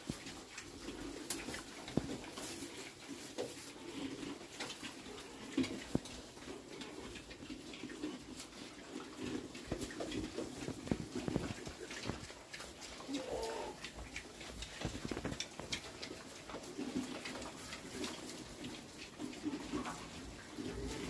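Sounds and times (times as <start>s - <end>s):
pigs grunting softly: 0.0s - 21.0s.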